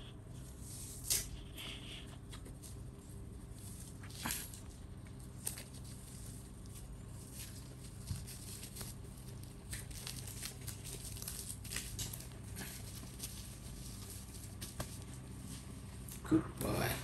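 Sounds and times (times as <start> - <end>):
steady low hum: 0.0 - 17.0
diaper rustling and crinkling: 2.5 - 16.3.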